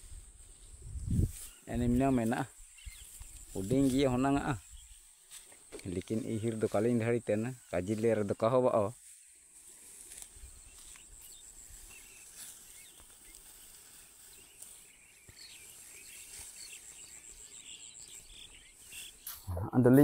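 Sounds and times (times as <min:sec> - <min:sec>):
insects chirring: 0:00.5 - 0:19.5.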